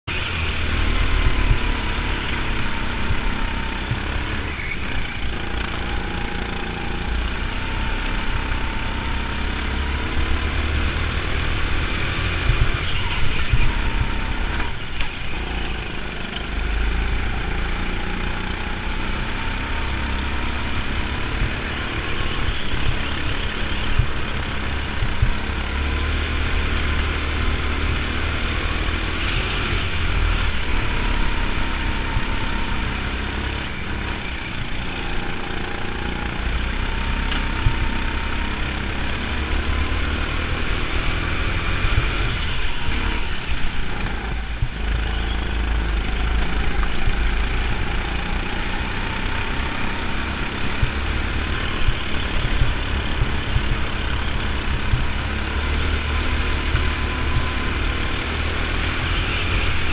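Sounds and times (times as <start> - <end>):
go-kart motor racing: 0.0 - 59.9.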